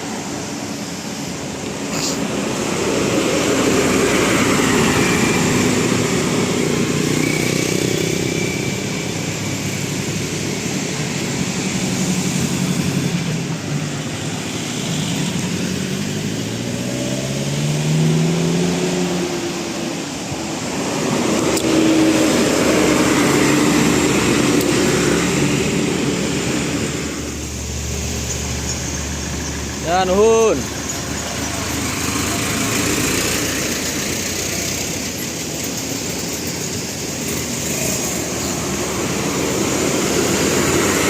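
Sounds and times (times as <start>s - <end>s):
vehicles passing on road: 0.0s - 41.0s
engine accelerating: 1.2s - 41.0s.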